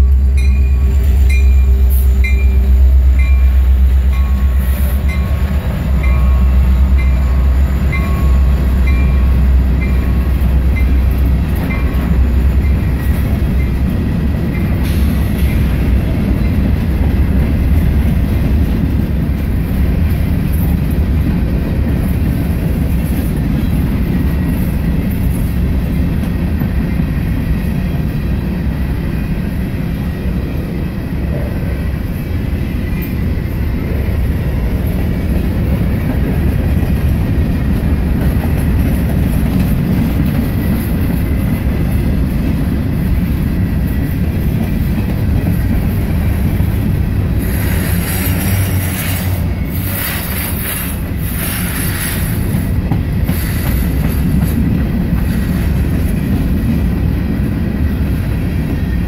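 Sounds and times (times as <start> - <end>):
diesel locomotive drone: 0.0 - 59.0
train wheels clattering on rail: 0.0 - 59.0.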